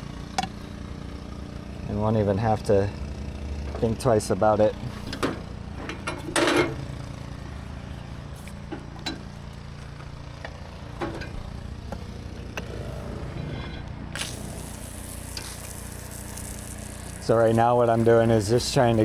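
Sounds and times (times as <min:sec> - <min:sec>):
gas engine idling: 0:00.0 - 0:19.0.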